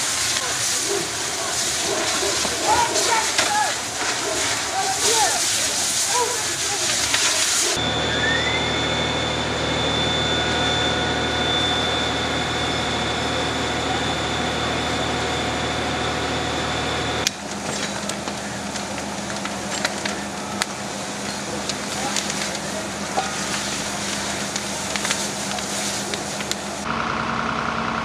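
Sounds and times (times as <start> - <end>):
fire crackling: 0.0 - 27.8
fire engine drone: 0.0 - 28.0
water pump whine: 0.0 - 28.0.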